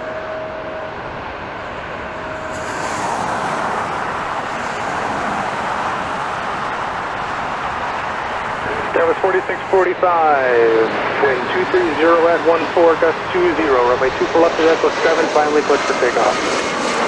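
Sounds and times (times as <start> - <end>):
jet engines roaring on takeoff: 0.0 - 17.0.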